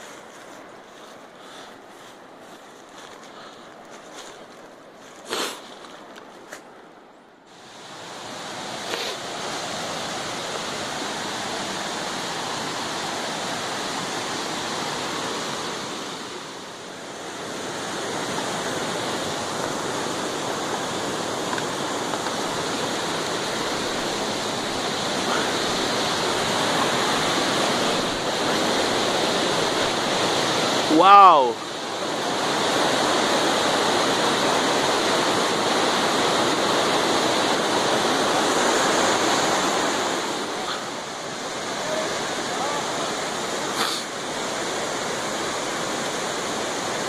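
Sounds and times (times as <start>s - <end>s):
waterfall roaring: 7.5s - 47.0s.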